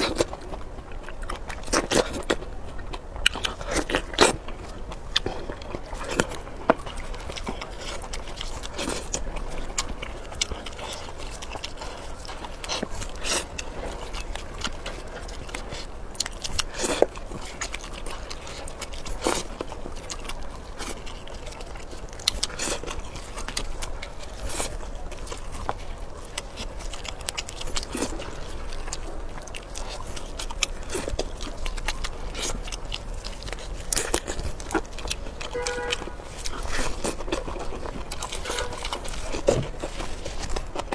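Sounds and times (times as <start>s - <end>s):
sharp crunches: 0.0s - 40.9s
wet chewing: 0.0s - 40.9s.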